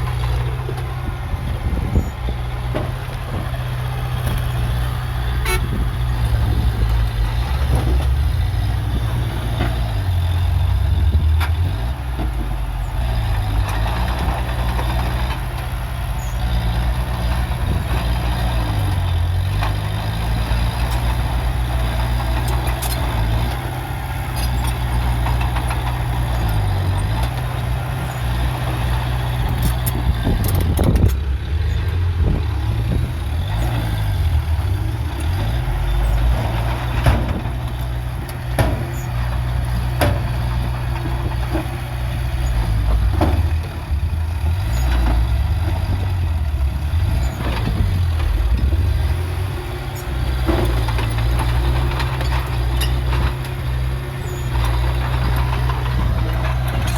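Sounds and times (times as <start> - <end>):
heavy diesel machinery engine: 0.0 - 56.9.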